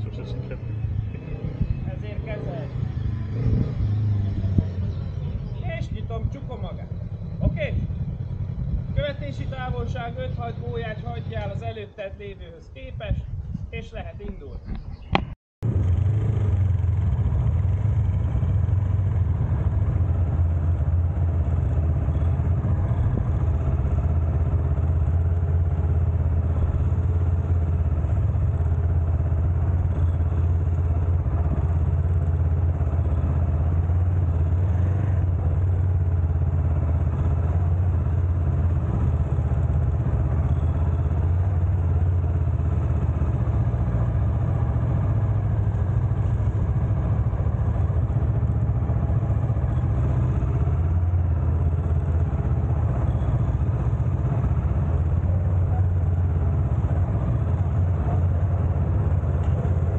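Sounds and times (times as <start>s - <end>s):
motorcycle engine at low revs: 0.0s - 11.9s, 12.7s - 59.9s.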